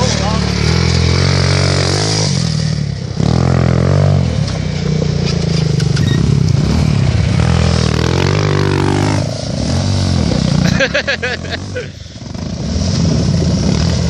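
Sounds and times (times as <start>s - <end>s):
quad bike engine revving: 0.0s - 14.0s.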